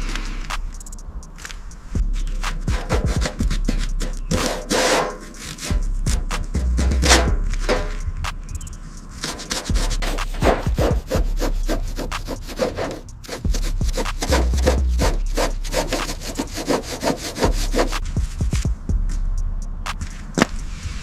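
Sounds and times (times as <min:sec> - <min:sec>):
rubbing strokes on hard surface: 0:00.0 - 0:18.2.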